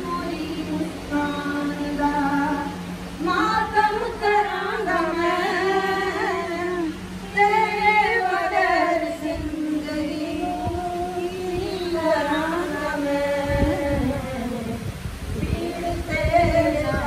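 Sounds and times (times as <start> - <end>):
steady low hum: 0.0 - 17.0
women singing: 0.0 - 17.0.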